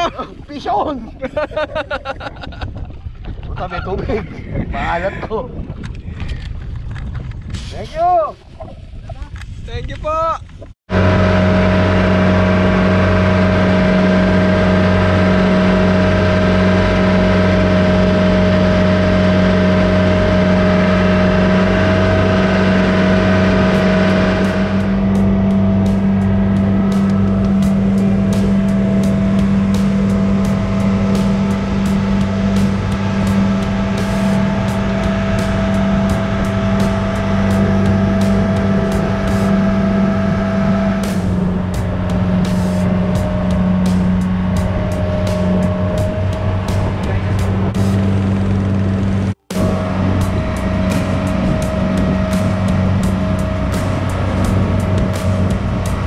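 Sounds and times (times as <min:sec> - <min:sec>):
boat engine running: 0:10.6 - 0:56.0.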